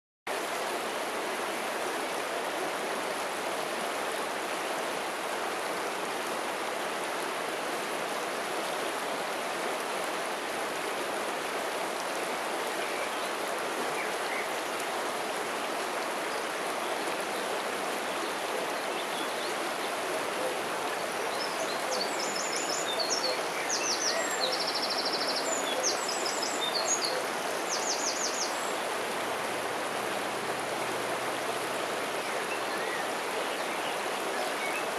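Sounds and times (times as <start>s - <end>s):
river water flowing: 0.3s - 34.9s.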